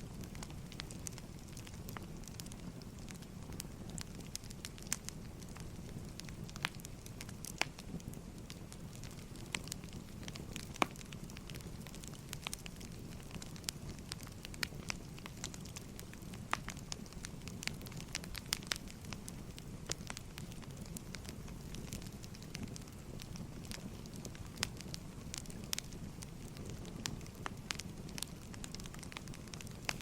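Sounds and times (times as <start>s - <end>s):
low rumble of flames: 0.0s - 30.0s
firewood popping and snapping: 0.2s - 30.0s.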